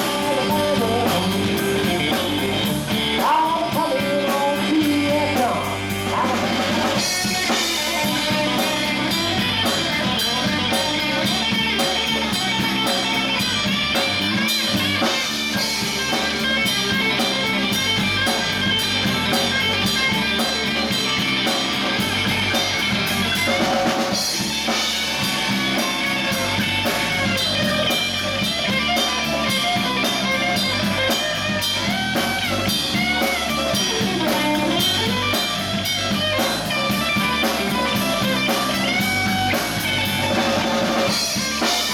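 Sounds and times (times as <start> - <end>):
lead electric guitar bending notes: 0.0 - 41.9
live band playing: 0.0 - 41.9.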